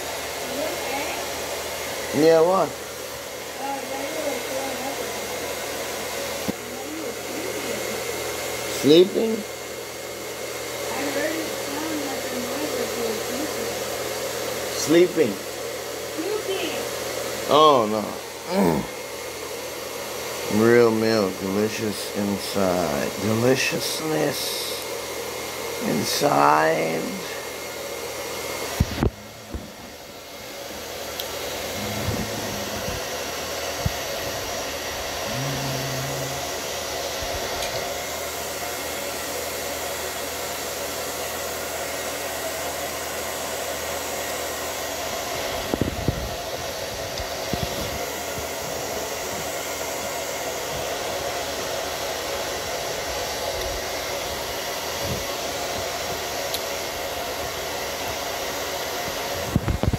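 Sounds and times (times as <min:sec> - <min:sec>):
electric blower whooshing: 0:00.0 - 0:59.9.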